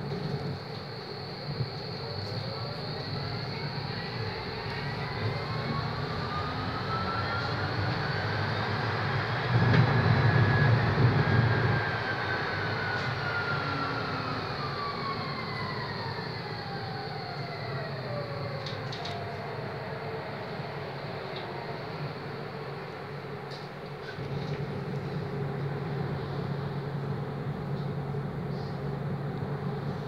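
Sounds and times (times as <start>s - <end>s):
tram motor whine: 0.0s - 30.0s
wheels rumbling on rails: 0.0s - 30.0s.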